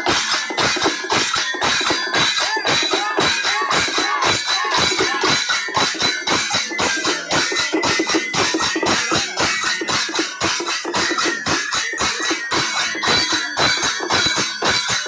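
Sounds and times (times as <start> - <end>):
drums beaten with sticks: 0.0 - 15.0.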